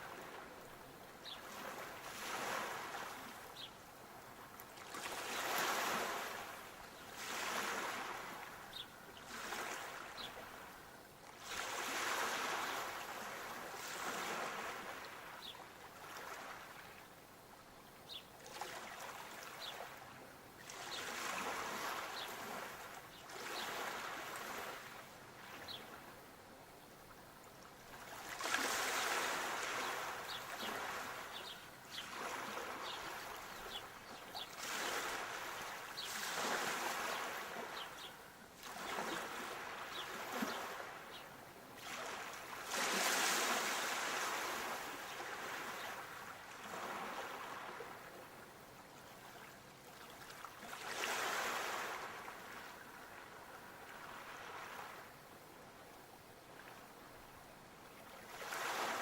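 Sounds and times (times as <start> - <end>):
sea waves washing ashore: 0.0 - 17.0, 18.4 - 26.1, 27.8 - 48.4, 49.9 - 55.2, 58.0 - 59.0.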